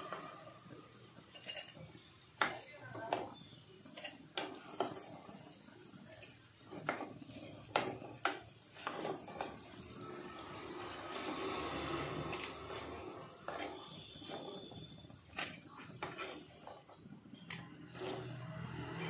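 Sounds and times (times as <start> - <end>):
potatoes sizzling in oil: 0.0 - 19.0.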